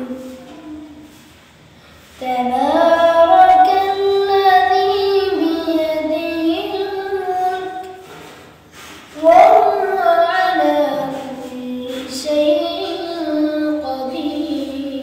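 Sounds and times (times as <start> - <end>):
boy chanting melodically: 0.0 - 1.2, 2.2 - 8.0, 9.1 - 15.0.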